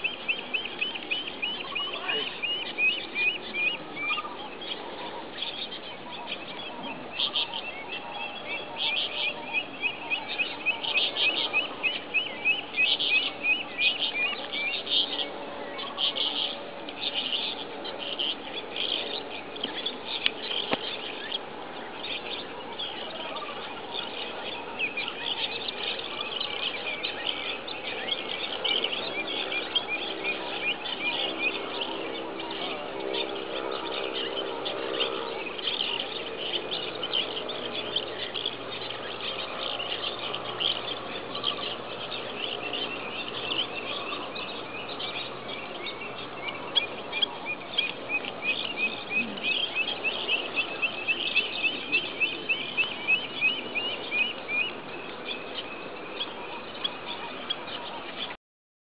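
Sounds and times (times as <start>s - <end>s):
small birds chirping: 0.0s - 58.4s.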